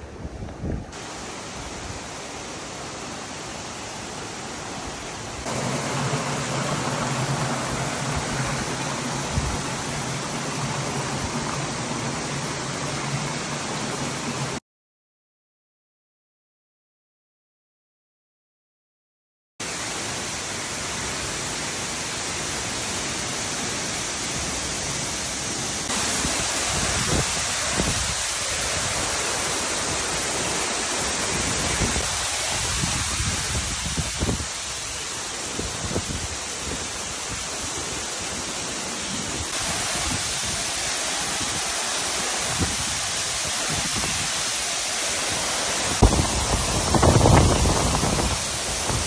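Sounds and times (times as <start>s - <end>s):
waterfall rushing into pool: 0.7s - 14.6s, 19.6s - 49.0s.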